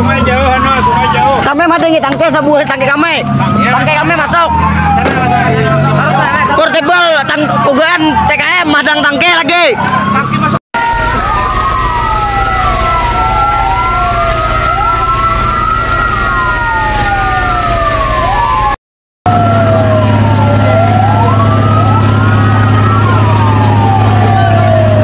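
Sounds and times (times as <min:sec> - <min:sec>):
fire truck sirens wailing: 0:00.0 - 0:25.0.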